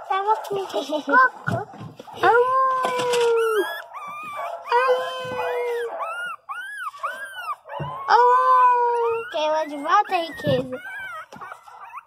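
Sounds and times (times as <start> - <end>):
puppies whining and crying: 0.2 - 12.0.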